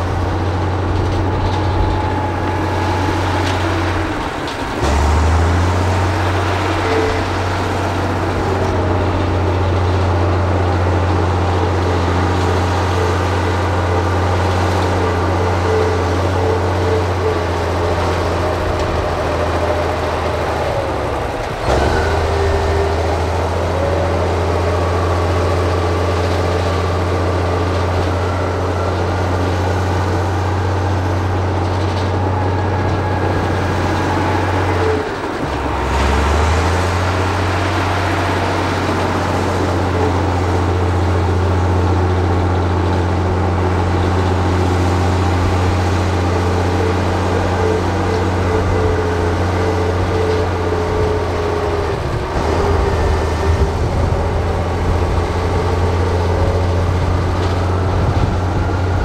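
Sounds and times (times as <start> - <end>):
bulldozer diesel engine humming: 0.0 - 59.0
higher wavering whine: 0.0 - 59.0.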